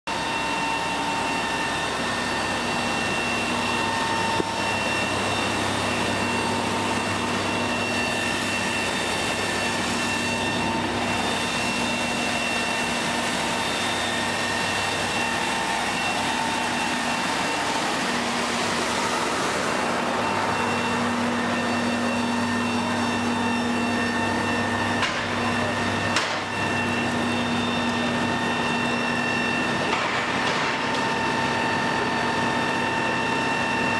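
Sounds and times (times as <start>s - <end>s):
engine driving water pump: 0.1s - 33.9s.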